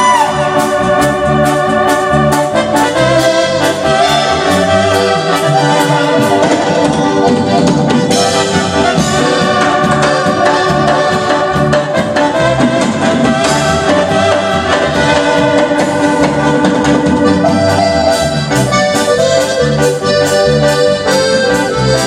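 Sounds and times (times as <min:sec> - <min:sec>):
reedy lead melody: 0:00.0 - 0:22.0.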